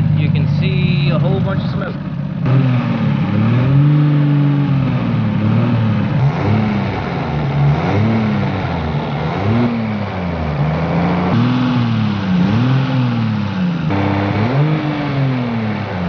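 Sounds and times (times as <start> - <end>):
engine revving in short blips: 2.4 - 16.0.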